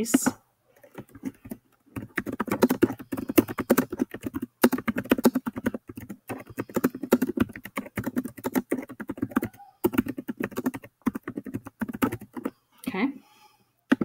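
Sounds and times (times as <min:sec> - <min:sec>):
fast typing on keyboard: 0:00.1 - 0:12.5.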